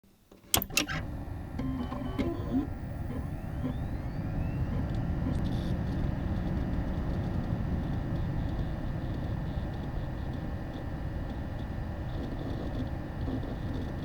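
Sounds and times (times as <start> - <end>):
computer fans whirring: 0.2 - 14.0
faint rising whine: 0.6 - 14.0.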